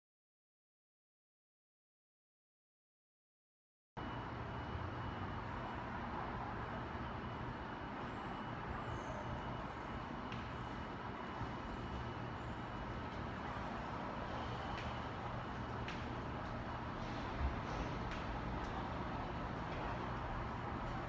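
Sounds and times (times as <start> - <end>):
hallway room tone hum and hiss: 4.0 - 21.0.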